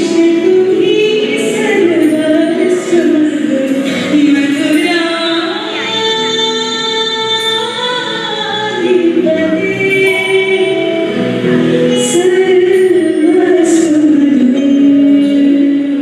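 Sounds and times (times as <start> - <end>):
musical accompaniment: 0.0 - 16.0.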